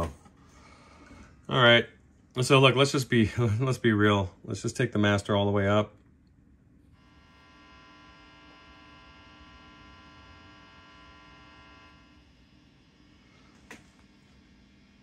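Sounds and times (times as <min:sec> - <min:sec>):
guitar amp hum: 0:00.0 - 0:15.0.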